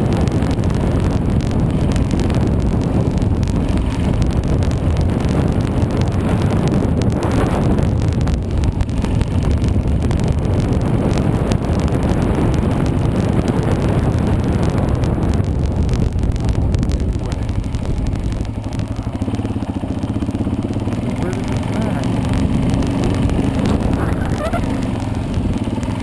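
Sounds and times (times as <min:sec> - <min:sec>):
dirt bike engine running: 0:00.0 - 0:26.0
tyres on gravel: 0:00.8 - 0:26.0.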